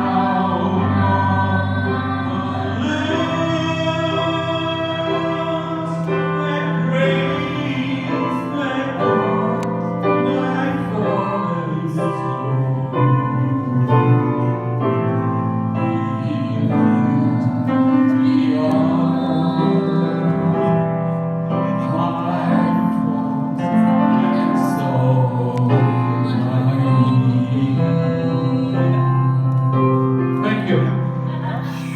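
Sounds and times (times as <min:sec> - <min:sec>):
electronic keyboard chords: 0:00.0 - 0:31.9
man singing through speakers: 0:00.0 - 0:31.9.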